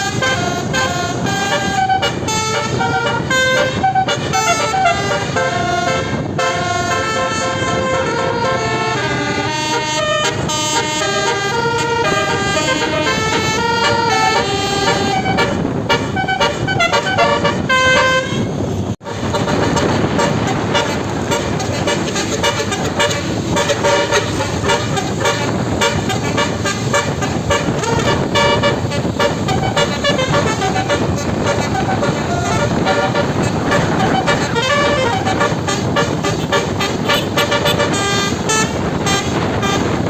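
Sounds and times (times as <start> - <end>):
dense noisy background: 0.0 - 40.0
multi-tone air horn melody: 0.0 - 40.0.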